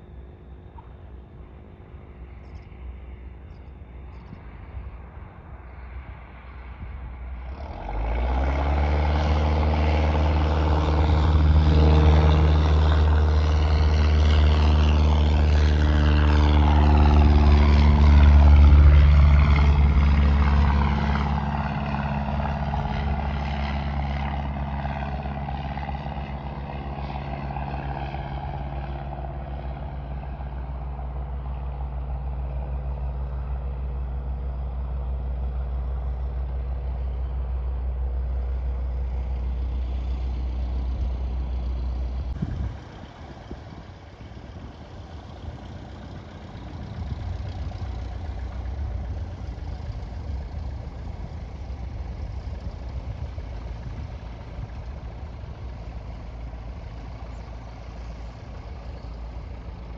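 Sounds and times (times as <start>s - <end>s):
vehicle engine running: 7.4s - 59.9s.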